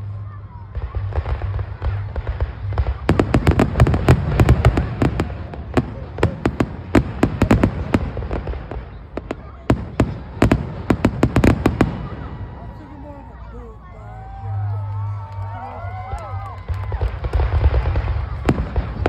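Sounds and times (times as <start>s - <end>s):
fireworks cracking and booming: 0.0s - 12.8s, 16.0s - 19.0s.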